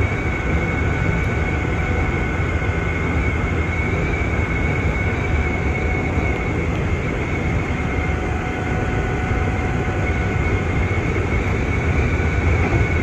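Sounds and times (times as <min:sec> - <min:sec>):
high motor whine: 0:00.0 - 0:13.0
train wheels rumbling on rails: 0:00.0 - 0:13.0.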